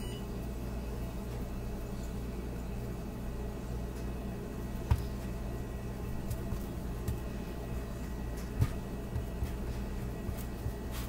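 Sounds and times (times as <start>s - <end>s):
kitchen room hum: 0.0s - 11.0s.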